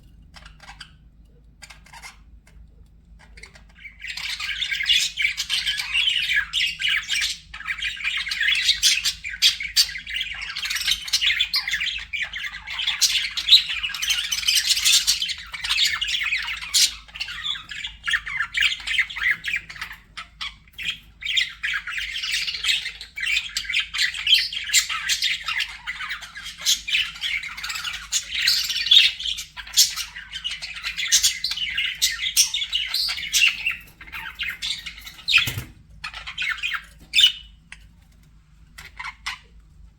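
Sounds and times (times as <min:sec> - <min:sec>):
budgerigars chirping: 0:00.3 - 0:01.0, 0:01.6 - 0:02.6, 0:03.2 - 0:38.2, 0:38.8 - 0:39.6.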